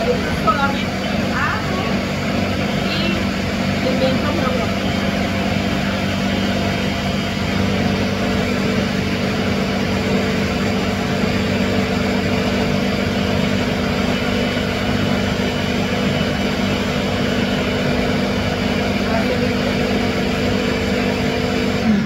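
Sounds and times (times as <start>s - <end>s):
blender motor running: 0.0s - 22.0s.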